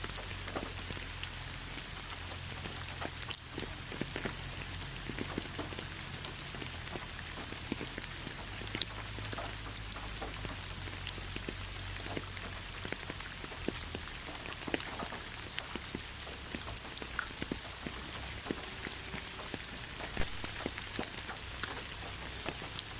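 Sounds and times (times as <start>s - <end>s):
rain hissing: 0.0s - 22.9s
raindrops ticking on a surface: 0.0s - 22.9s.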